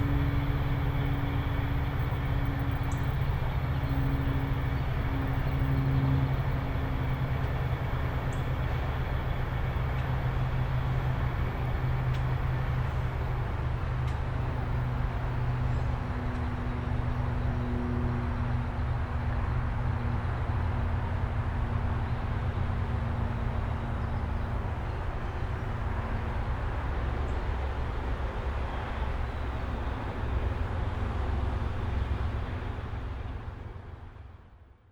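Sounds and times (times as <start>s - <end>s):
train locomotive rumbling: 0.0s - 34.9s.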